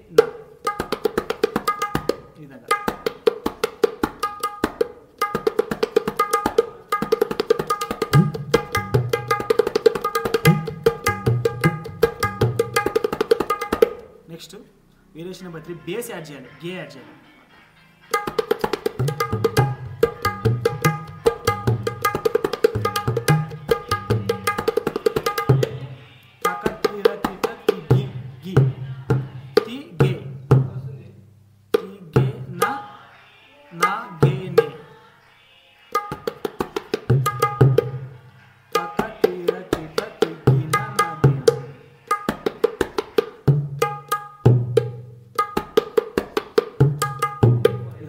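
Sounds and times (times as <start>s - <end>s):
tabla drum strokes: 0.1s - 14.2s, 18.1s - 30.9s, 36.0s - 48.0s.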